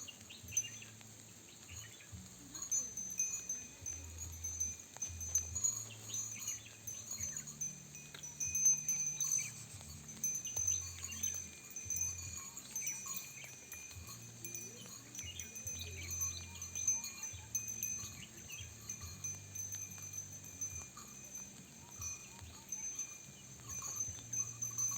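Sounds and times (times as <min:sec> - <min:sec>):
soft bell-like chiming: 0:00.0 - 0:24.9.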